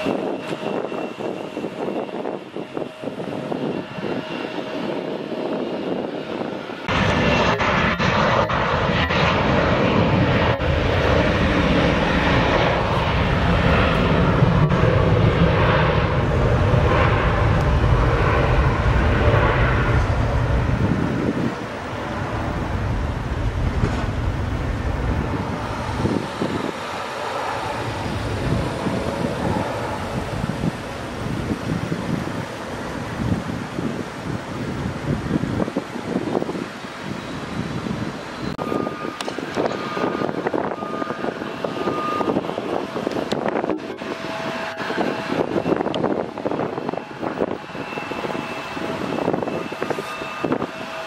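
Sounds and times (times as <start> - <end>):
jet engines at takeoff power: 0.0 - 51.0.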